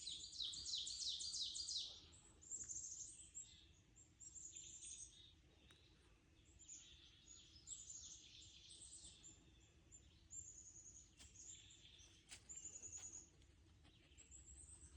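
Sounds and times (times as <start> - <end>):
songbirds singing: 0.0 - 14.9.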